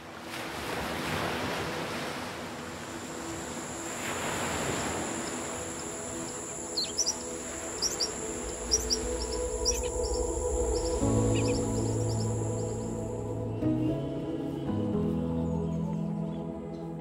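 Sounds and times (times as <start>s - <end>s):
soft ambient music: 0.0s - 17.0s
birds chirping: 3.2s - 17.0s.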